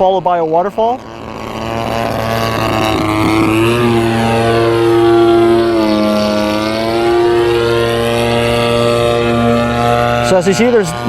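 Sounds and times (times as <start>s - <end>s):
model airplane motor whining: 0.0s - 11.0s.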